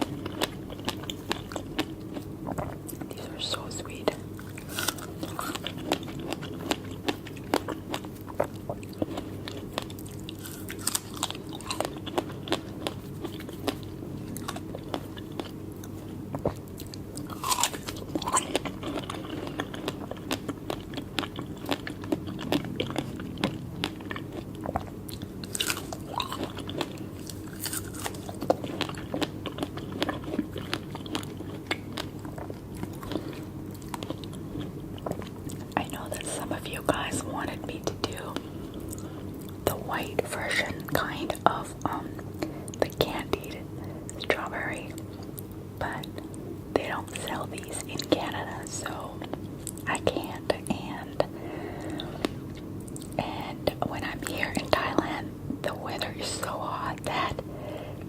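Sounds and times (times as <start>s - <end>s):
chewing strawberries: 0.0s - 57.4s
steady low hum: 0.0s - 58.0s.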